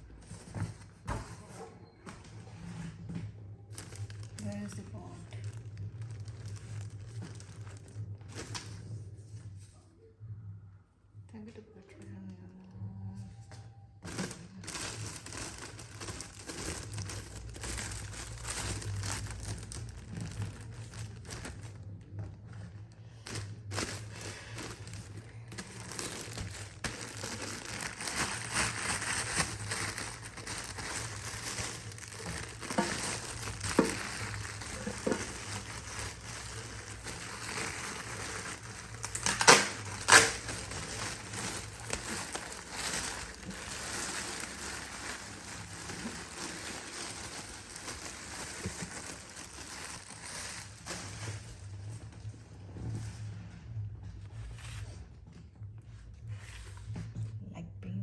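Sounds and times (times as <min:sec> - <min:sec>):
packaging crinkling and rustling: 0:00.0 - 0:09.8, 0:13.4 - 0:57.3.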